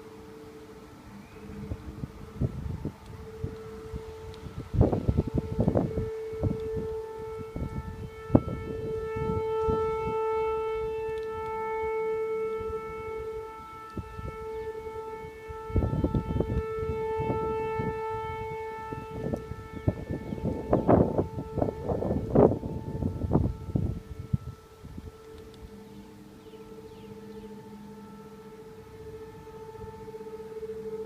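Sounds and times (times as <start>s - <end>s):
trumpet-like drone in sky: 0.0s - 31.0s
wind rumble on microphone: 0.0s - 31.0s.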